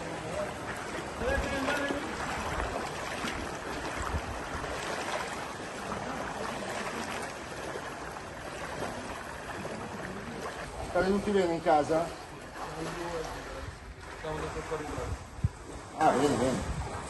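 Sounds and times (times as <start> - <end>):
water sloshing from wading: 0.0 - 17.0.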